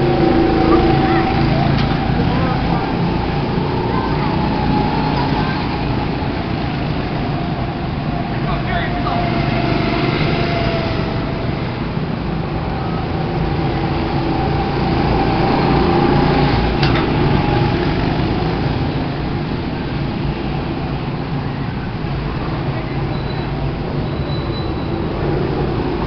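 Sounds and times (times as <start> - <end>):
go-kart engines running: 0.0 - 26.0.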